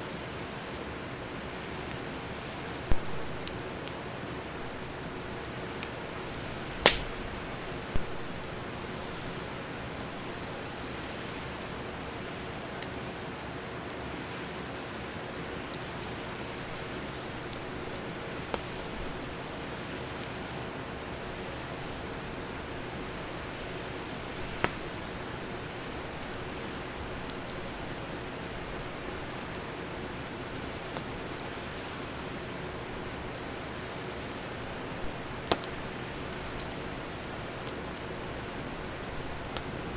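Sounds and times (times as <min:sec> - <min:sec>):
wood fire hissing: 0:00.1 - 0:39.9
fire popping: 0:01.6 - 0:39.9.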